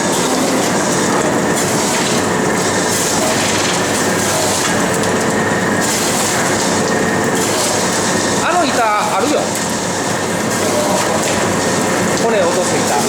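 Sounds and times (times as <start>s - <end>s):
filleting machine clatter: 0.0s - 13.0s.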